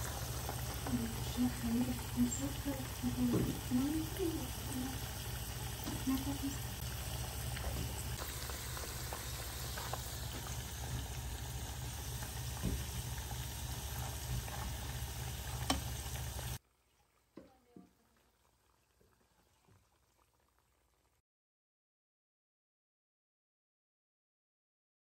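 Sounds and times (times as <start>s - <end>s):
food deep-frying in hot oil: 0.0s - 21.2s.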